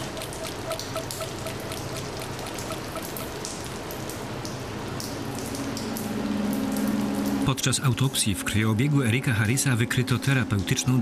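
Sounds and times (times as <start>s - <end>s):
crackling rain-like hiss: 1.7s - 11.0s.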